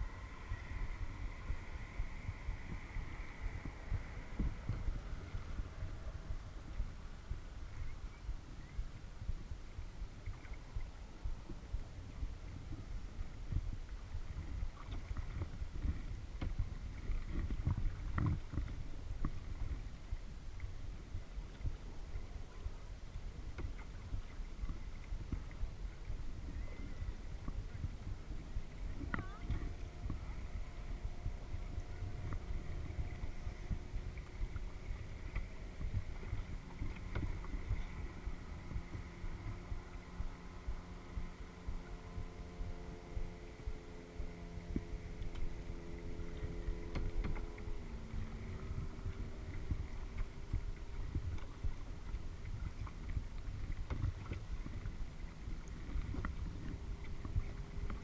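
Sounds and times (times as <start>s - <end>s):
low rumble of water: 0.0s - 58.0s
wind on microphone: 0.0s - 58.0s
paddle splashing in water: 10.2s - 58.0s.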